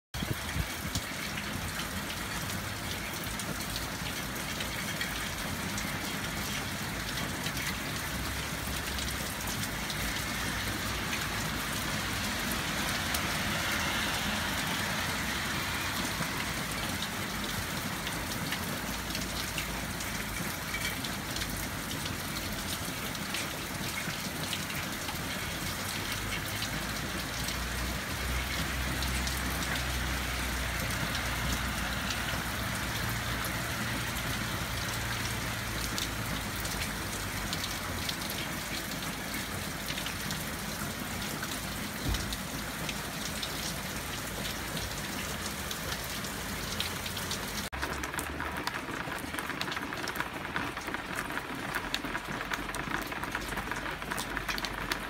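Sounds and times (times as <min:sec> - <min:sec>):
hard rain falling: 0:00.1 - 0:55.0
water dripping off awning: 0:00.2 - 0:55.0.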